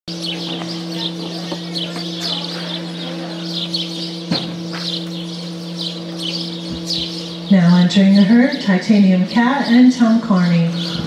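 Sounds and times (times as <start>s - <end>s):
small birds chirping: 0.1s - 11.0s
steady low hum: 0.1s - 11.0s.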